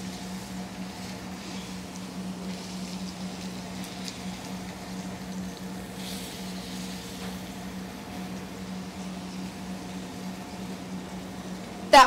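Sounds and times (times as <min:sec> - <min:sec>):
fish sizzling in a pan: 0:00.0 - 0:11.7
small crackles: 0:00.0 - 0:11.8
steady low hum: 0:00.0 - 0:12.0.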